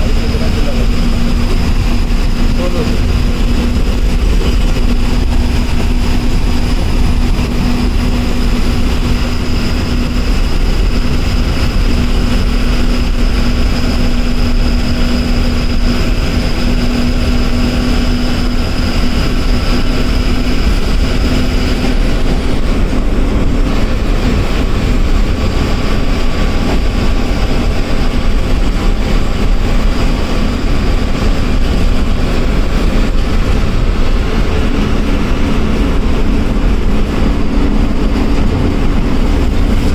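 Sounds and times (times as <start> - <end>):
bus engine drone: 0.0 - 39.9
high whine: 0.0 - 39.9
road noise: 0.0 - 39.9.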